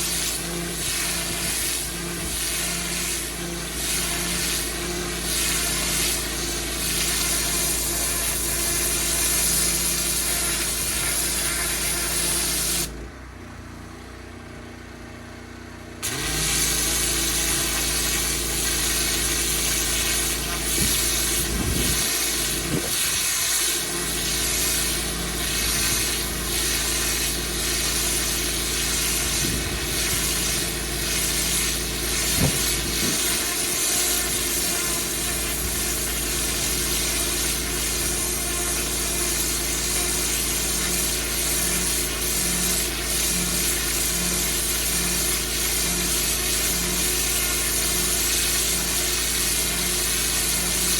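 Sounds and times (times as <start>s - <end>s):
water spray hissing: 0.0s - 12.9s, 16.0s - 50.9s
pressure washer engine: 0.0s - 50.9s.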